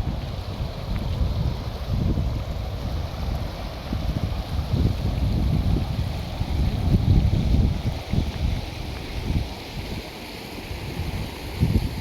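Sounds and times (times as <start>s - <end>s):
wind buffeting microphone: 0.0s - 10.1s, 10.7s - 12.0s
steady rushing hiss: 0.0s - 12.0s.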